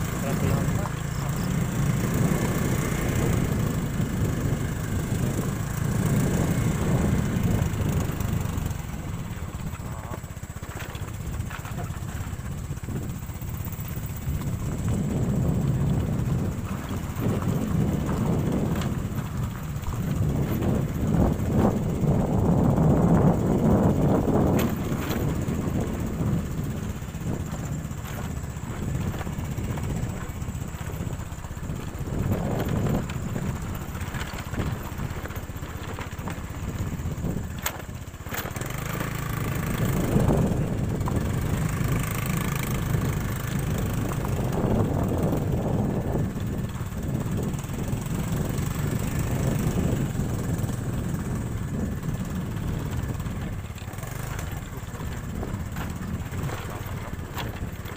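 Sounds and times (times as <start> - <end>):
motorcycle engine rumble: 0.0 - 57.9.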